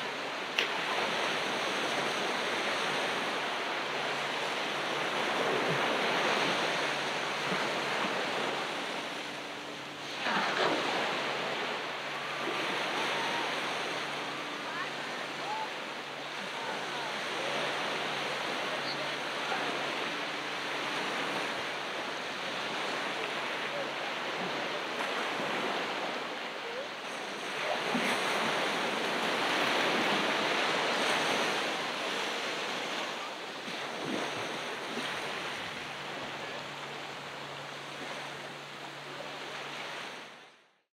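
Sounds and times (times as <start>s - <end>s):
ocean surf breaking on beach: 0.0s - 40.5s.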